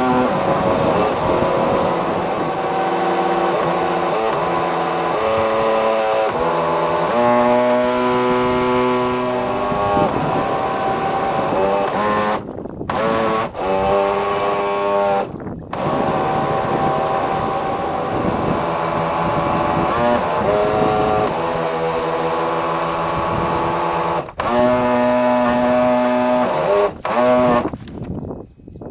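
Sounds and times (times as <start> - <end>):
motorboat engine running: 0.0 - 28.2.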